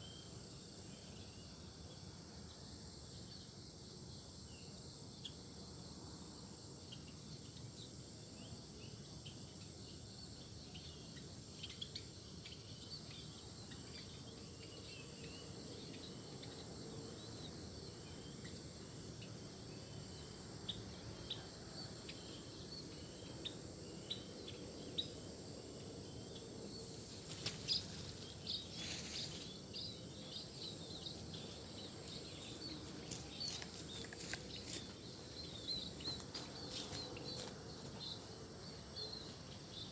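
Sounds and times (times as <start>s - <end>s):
insect drone: 0.0s - 39.9s
small birds chirping: 6.8s - 39.9s.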